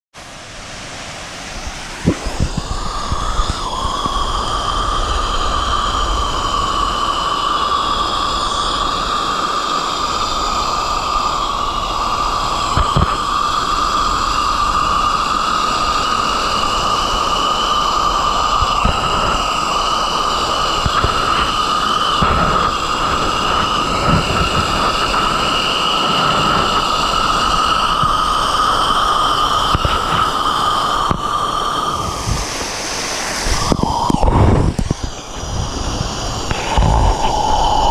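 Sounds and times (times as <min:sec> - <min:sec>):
small waterfall rushing: 0:00.2 - 0:37.9.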